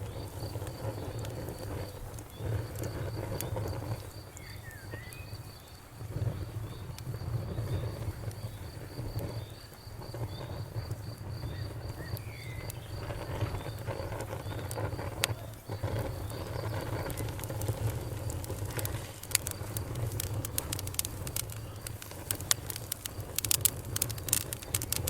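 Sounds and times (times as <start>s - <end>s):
cricket chirping: 0.0s - 25.0s
fire crackling and popping: 0.0s - 25.0s.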